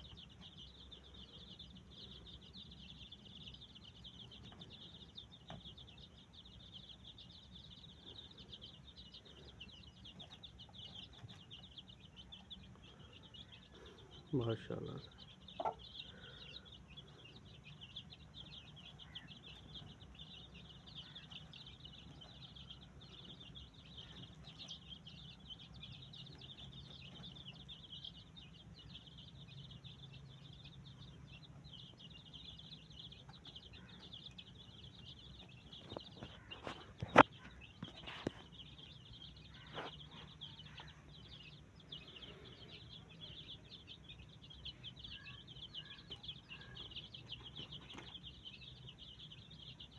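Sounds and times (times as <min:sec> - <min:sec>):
high-pitched bird chirping: 0:00.0 - 0:49.9.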